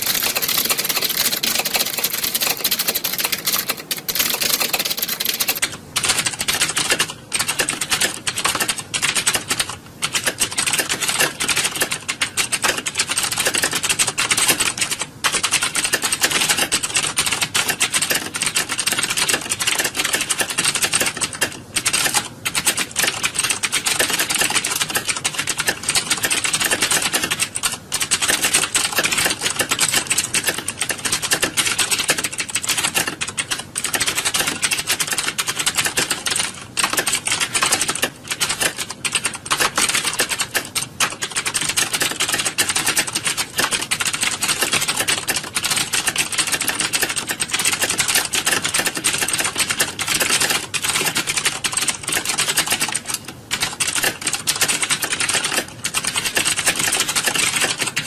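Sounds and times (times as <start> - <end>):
computer keyboards clattering: 0.0 - 58.0.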